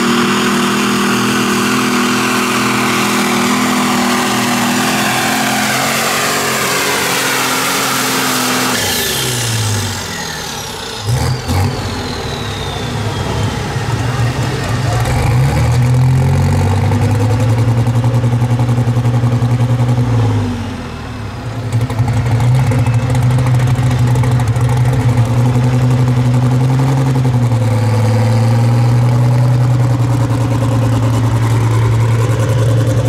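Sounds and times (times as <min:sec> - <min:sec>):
engine running at high revs: 0:00.0 - 0:18.2, 0:19.6 - 0:33.0.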